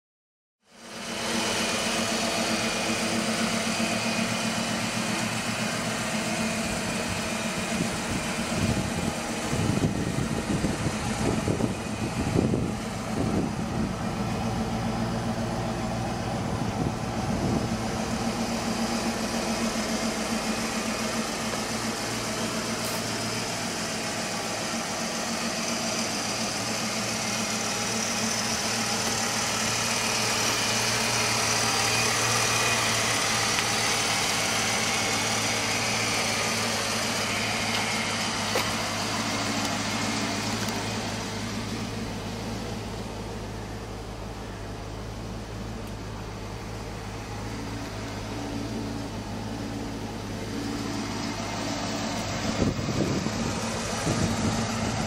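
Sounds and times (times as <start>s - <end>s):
car engine idling and revving: 0.6s - 55.0s.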